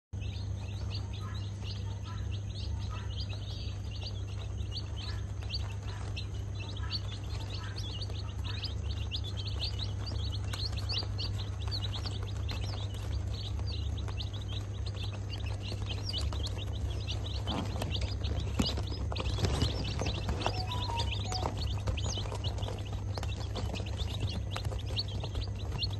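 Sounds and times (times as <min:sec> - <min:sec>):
chicks peeping: 0:00.2 - 0:25.9
steady low hum: 0:00.2 - 0:25.9.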